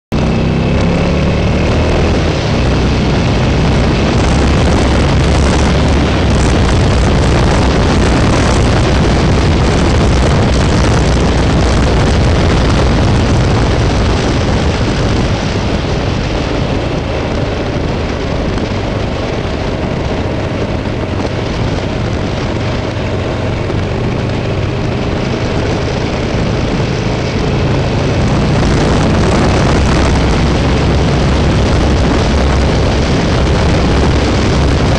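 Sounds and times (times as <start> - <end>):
motorcycle engine running: 0.1 - 34.9
wind rush on microphone: 0.1 - 34.9.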